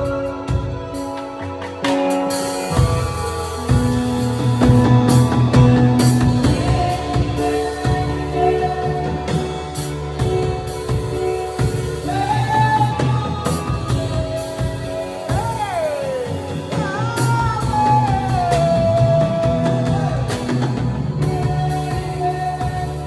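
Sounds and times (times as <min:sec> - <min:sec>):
drums and bass: 0:00.0 - 0:23.0
person singing: 0:00.0 - 0:23.0.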